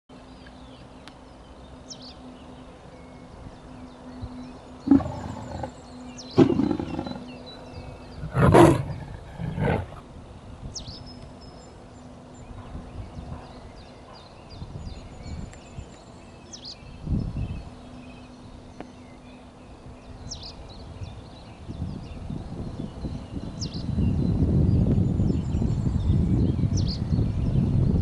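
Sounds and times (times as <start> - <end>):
small birds chirping: 0.1 - 28.0
wind rumbling on microphone: 3.2 - 11.7, 12.3 - 28.0.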